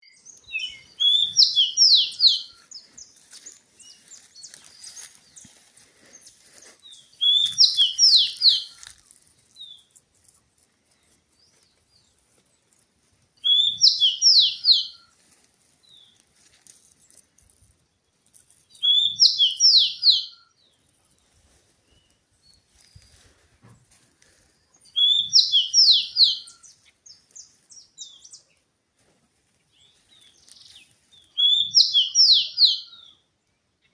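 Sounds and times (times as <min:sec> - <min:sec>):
songbird singing: 0:00.0 - 0:15.2, 0:15.8 - 0:16.3, 0:16.9 - 0:28.8, 0:29.6 - 0:33.9.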